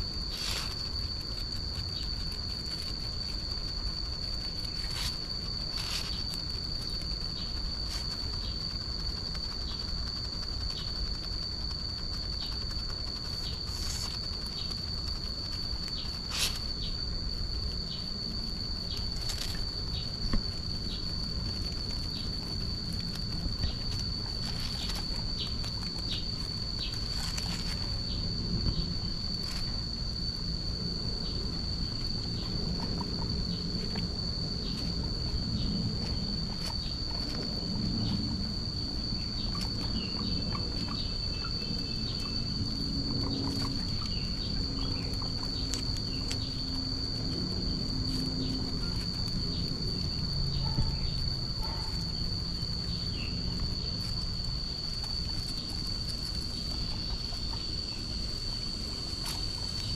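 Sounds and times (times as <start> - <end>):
high-pitched insect trill: 0.0 - 59.9.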